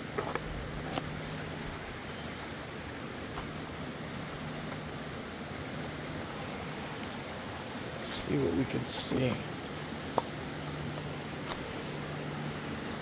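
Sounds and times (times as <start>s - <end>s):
river flowing over rocks: 0.0s - 13.0s.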